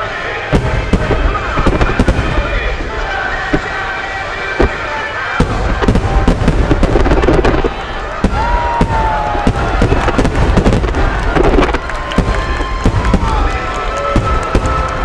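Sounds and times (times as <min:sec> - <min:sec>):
fireworks booming and cracking: 0:00.0 - 0:15.0
low rumble: 0:00.5 - 0:15.0.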